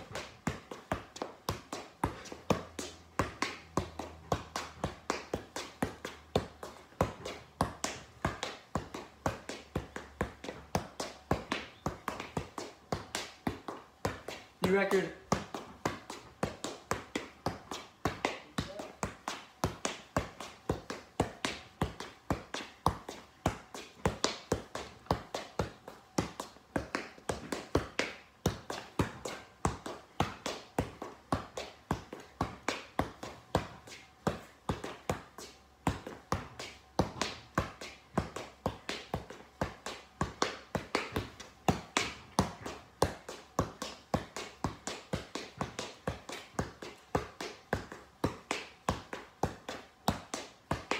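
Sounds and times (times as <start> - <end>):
ball tapping on foot: 0.0 - 50.9.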